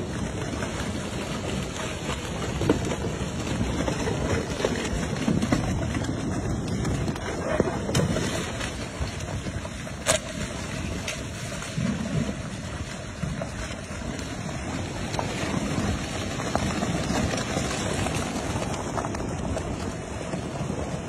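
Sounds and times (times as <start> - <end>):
mudflow rushing: 0.0 - 21.0
wind buffeting microphone: 0.0 - 21.0.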